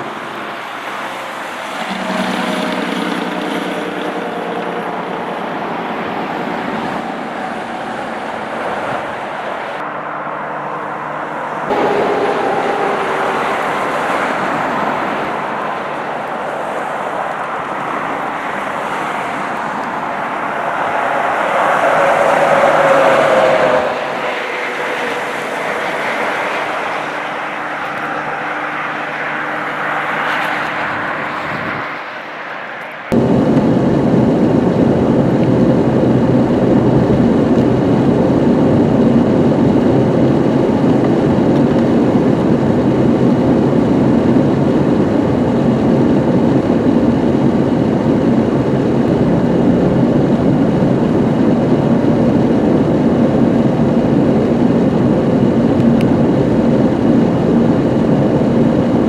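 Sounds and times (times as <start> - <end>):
road and engine noise: 0.0 - 59.0
vehicle interior hum: 0.0 - 59.0.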